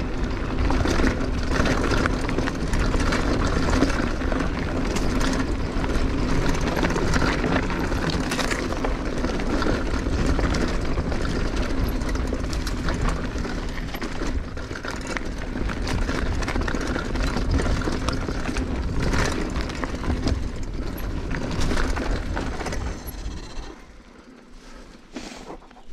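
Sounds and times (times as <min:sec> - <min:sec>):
bike rattling over bumps: 0:00.0 - 0:25.9
bike tyres on gravel: 0:00.0 - 0:25.9.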